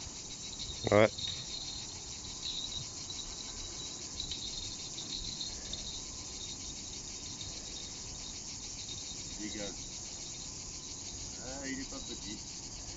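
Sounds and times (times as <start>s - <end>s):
insects chirring: 0.0s - 12.9s.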